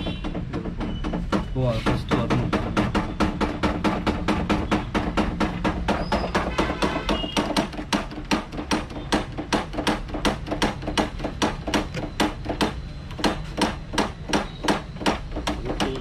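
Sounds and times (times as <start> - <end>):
rapid hammering knocks: 0.0 - 16.0.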